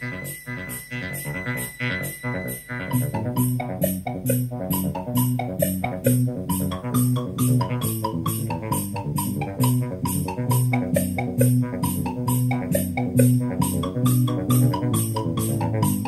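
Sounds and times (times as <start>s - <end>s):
music with bass guitar and drums: 0.0s - 16.0s.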